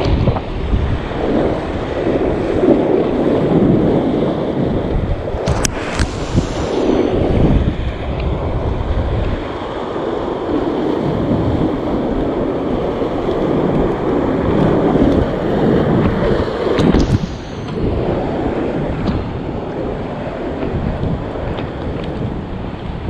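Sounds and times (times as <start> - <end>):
waves washing over rocks: 0.0 - 23.0
wind buffeting microphone: 0.0 - 23.0.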